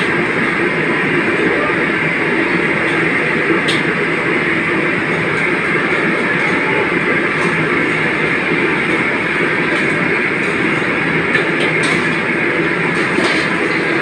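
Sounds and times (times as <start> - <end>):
kitchen equipment roar: 0.0 - 14.0.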